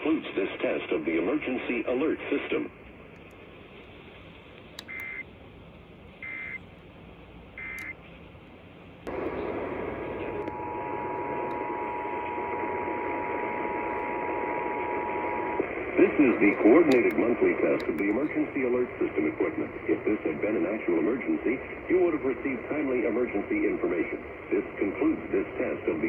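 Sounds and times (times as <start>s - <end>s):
hissy radio reception: 0.0s - 5.3s, 6.1s - 6.8s, 9.0s - 26.0s.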